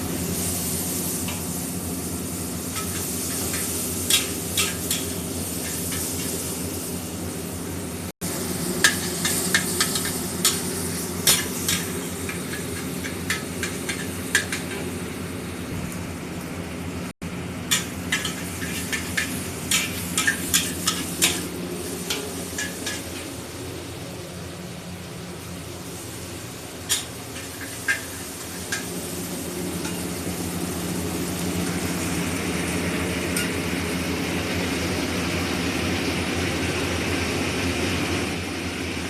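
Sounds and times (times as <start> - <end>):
noodles sizzling in a pan: 0.0 - 16.0, 17.3 - 39.0.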